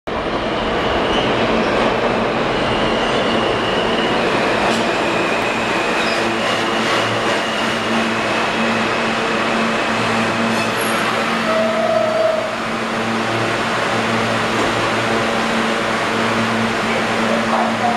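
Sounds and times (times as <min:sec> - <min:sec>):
train wheels rumbling on rail: 0:00.1 - 0:17.9.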